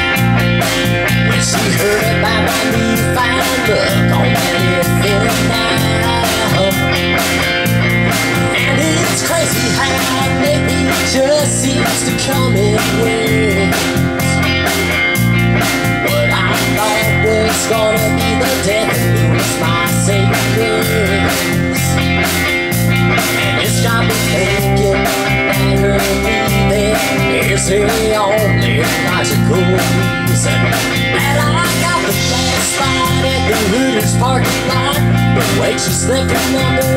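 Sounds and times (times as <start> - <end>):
lead guitar line: 0.0 - 36.9
live country band playing: 0.0 - 36.9.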